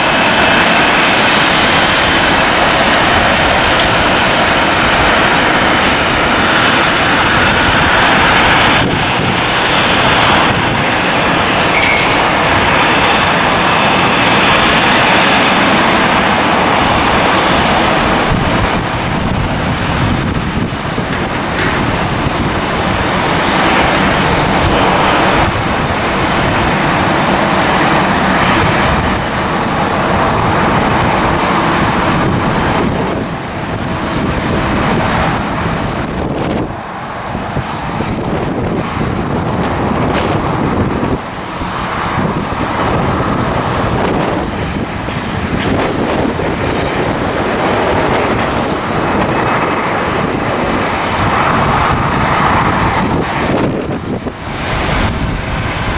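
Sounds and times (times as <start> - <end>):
airliner engines rushing: 0.0 - 55.9.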